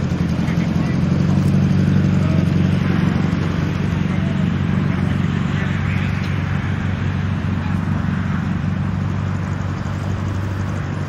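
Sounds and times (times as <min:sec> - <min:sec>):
car engine running at low speed: 0:00.0 - 0:11.0.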